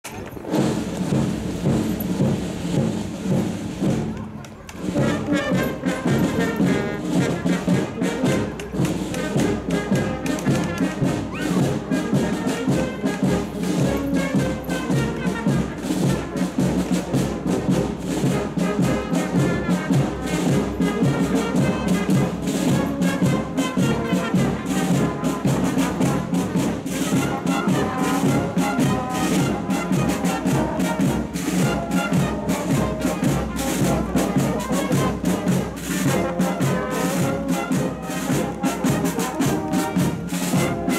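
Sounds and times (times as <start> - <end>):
brass band playing a march: 0.1 - 40.9
side drums beating: 0.4 - 40.9.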